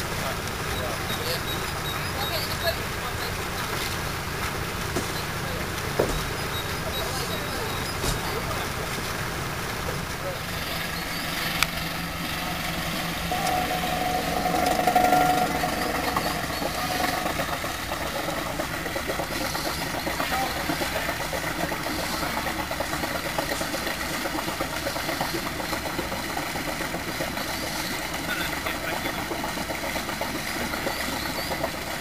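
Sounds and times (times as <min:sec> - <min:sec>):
engine chugging: 0:00.0 - 0:32.0.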